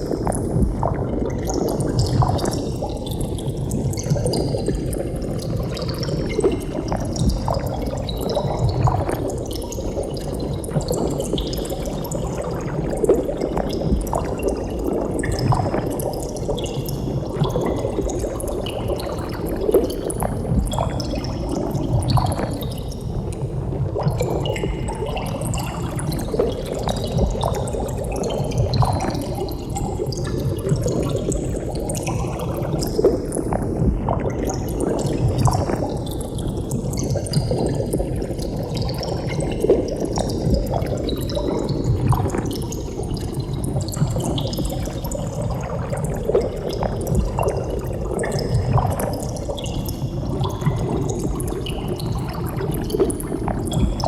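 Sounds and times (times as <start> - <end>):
water bubbling: 0.0 - 54.0.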